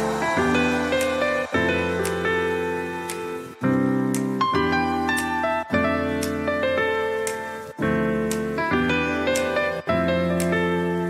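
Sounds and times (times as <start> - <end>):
instrumental music of held chords: 0.0 - 11.0.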